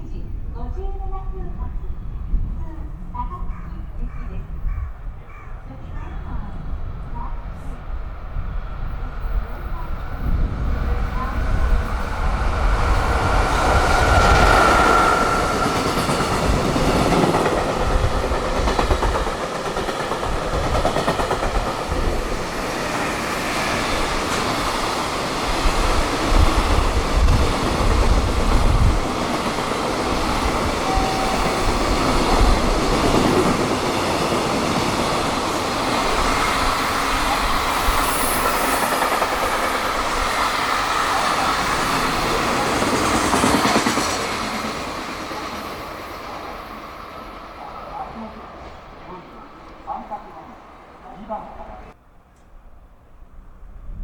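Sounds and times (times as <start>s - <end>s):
wind buffeting microphone: 0.0s - 45.8s, 52.6s - 54.0s.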